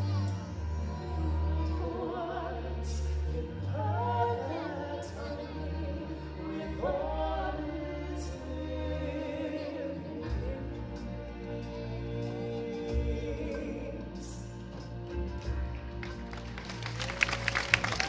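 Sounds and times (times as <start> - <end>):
band with deep bass: 0.0 - 18.0
singers holding wavering notes: 0.0 - 18.0.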